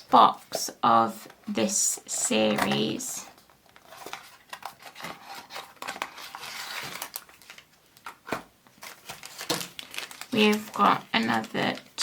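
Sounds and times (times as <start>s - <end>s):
rustling packaging: 2.4s - 12.0s.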